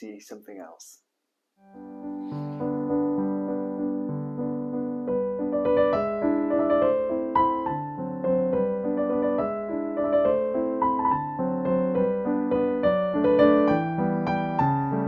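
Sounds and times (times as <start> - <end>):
gentle piano music: 1.6 - 15.0.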